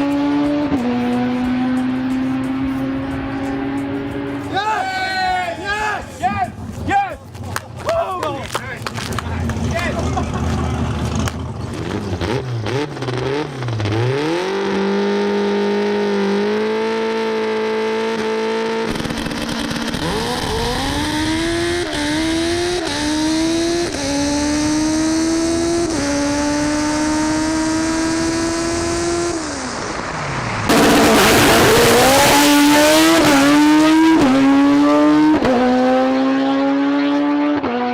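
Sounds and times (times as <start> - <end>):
race car engine revving: 0.0 - 4.6, 8.4 - 37.9.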